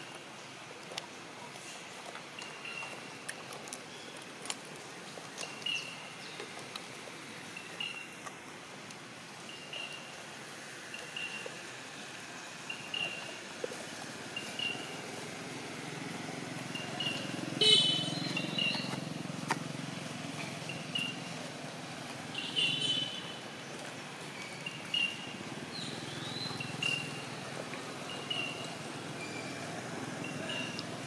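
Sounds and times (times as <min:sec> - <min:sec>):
distant vehicle engine hum: 0:01.0 - 0:31.0.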